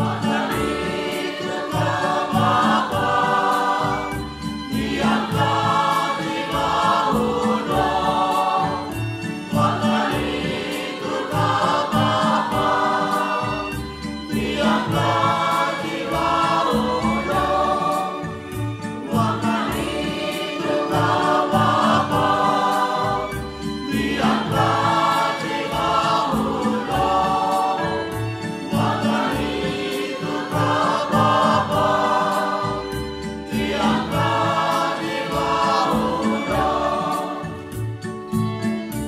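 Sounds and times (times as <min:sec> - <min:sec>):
choir singing a hymn: 0:00.0 - 0:39.0
instrumental accompaniment with beat: 0:00.0 - 0:39.0.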